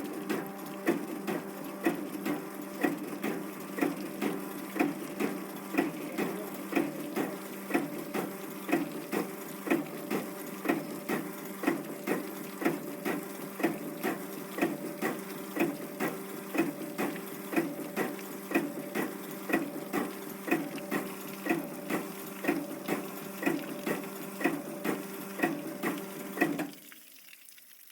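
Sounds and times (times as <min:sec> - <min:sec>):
motor and pump hum: 0:00.0 - 0:26.9.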